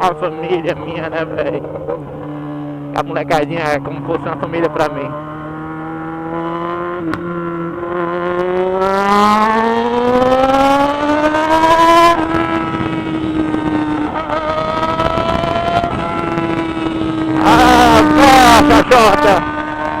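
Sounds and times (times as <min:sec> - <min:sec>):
motorcycle engine pulling hard: 0:00.0 - 0:20.0.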